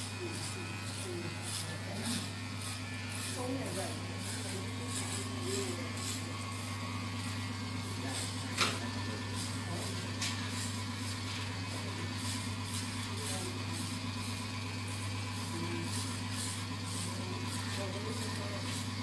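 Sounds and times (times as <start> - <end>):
electric hair clipper humming: 0.0 - 19.0.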